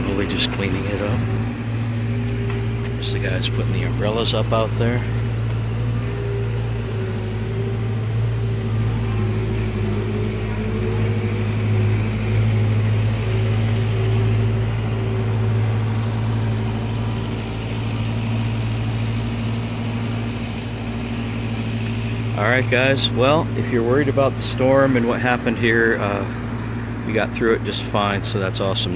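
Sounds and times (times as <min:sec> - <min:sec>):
motor idling hum: 0:00.0 - 0:28.9.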